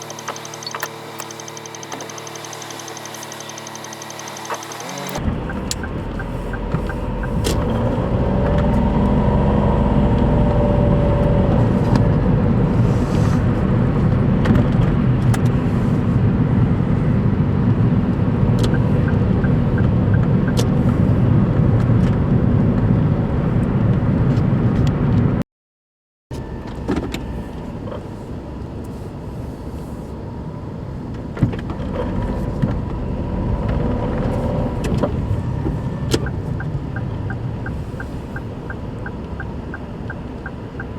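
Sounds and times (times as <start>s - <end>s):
car engine running: 0.0s - 25.1s, 26.4s - 40.9s.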